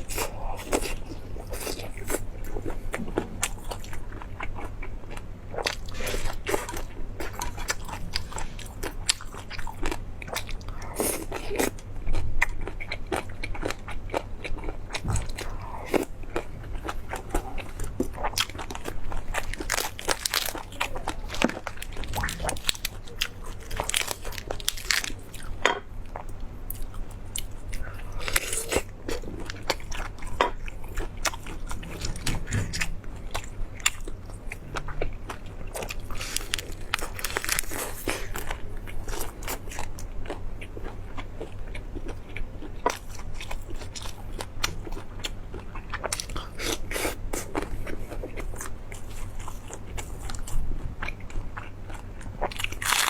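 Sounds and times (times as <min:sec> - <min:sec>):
crunchy eating: 0:00.0 - 0:53.0
faint low hum: 0:00.0 - 0:53.0.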